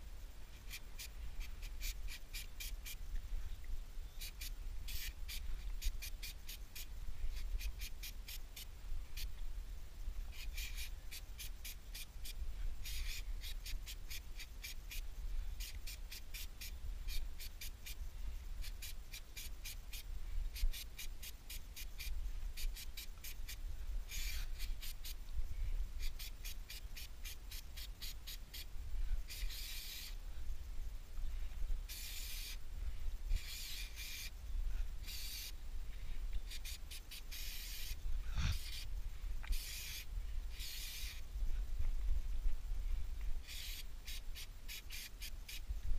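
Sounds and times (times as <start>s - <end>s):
aerosol spray hissing: 0.0s - 3.1s, 4.1s - 9.4s, 10.3s - 30.2s, 31.8s - 32.6s, 33.3s - 35.6s, 36.4s - 41.3s, 43.4s - 45.8s.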